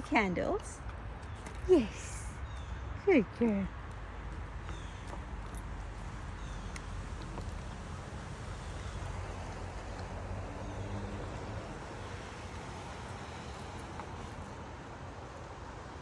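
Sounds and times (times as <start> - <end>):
outdoor background rumble and hiss: 0.0 - 16.0.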